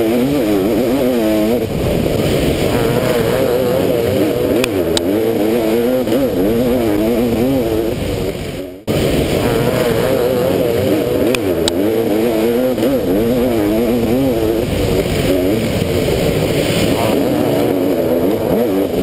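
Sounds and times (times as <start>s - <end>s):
motocross engine revving: 0.0s - 19.0s.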